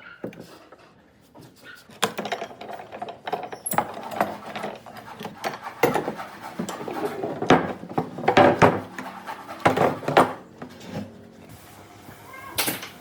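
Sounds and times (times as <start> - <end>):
knocks taps and scrapes on wood: 0.2 - 10.8.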